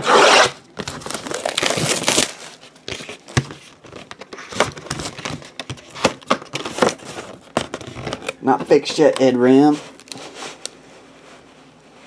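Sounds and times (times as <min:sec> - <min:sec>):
plastic wrapping crinkling: 0:00.7 - 0:11.4.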